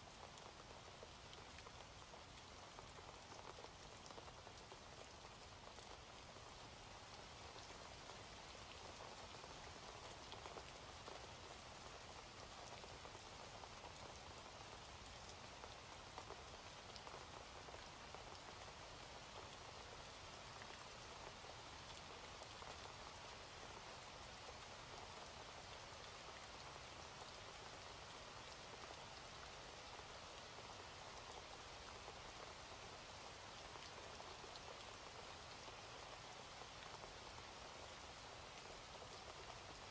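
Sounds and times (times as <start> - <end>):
faint steady rain: 0.0 - 39.9.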